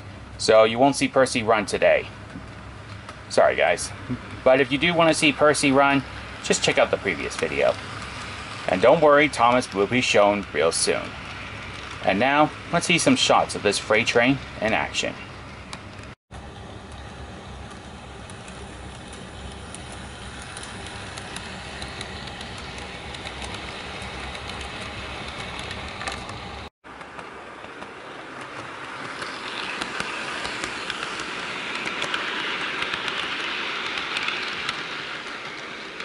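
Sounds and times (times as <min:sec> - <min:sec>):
wheels clicking over rail joints: 0:00.0 - 0:36.0
model train motor whirring: 0:01.8 - 0:15.1, 0:15.8 - 0:36.0.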